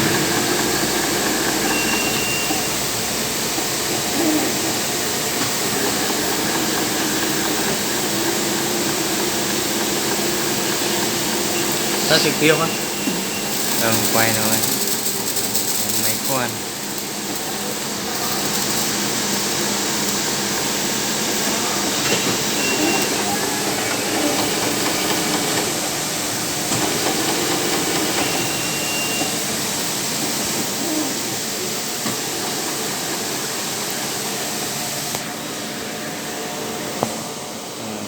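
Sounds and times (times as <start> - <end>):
drilling machine hiss and hum: 0.0 - 38.0.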